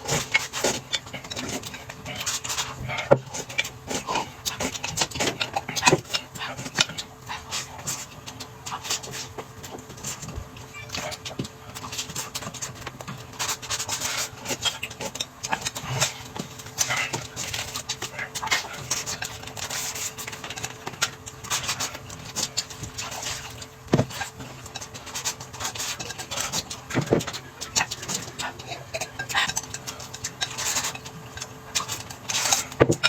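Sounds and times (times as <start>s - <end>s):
chewing and slurping: 0.0s - 33.0s.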